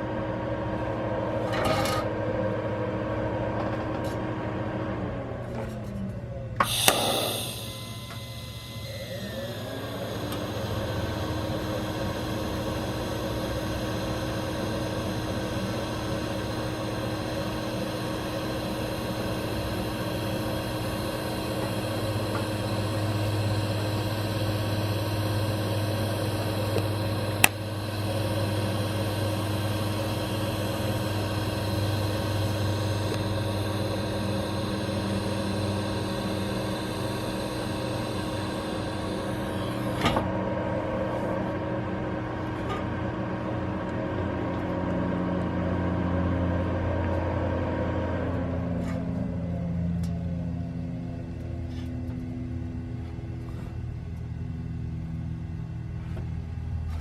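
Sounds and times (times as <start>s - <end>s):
welding machine humming and hissing: 6.6s - 57.0s.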